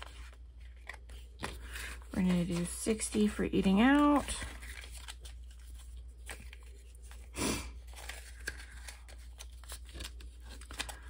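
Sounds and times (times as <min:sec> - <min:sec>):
banknotes rustling: 0:00.0 - 0:11.0.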